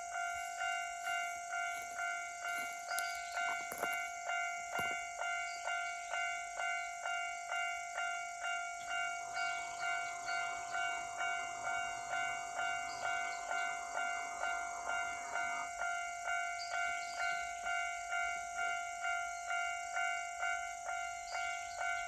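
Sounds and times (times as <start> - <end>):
level crossing warning bell ringing: 0.0 - 22.0
train passing: 0.0 - 22.0.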